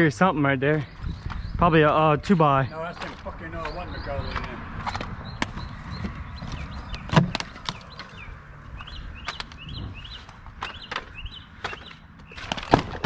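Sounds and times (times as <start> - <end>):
small bird chirping: 0.8 - 4.4, 5.2 - 12.8.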